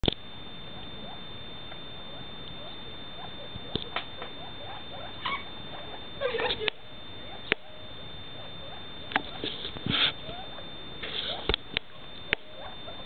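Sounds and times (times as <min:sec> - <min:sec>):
faint high-pitched whine: 0:00.0 - 0:13.0
quail calling: 0:00.7 - 0:13.0.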